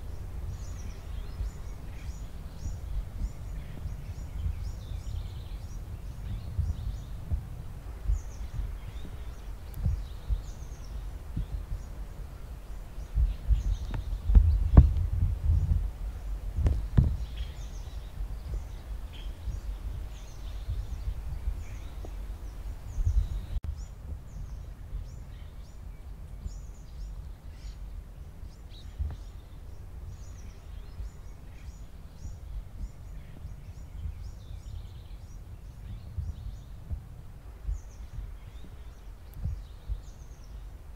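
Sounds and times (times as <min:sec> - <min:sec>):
small birds chirping: 0:00.0 - 0:40.9
wind buffeting microphone: 0:00.0 - 0:40.9.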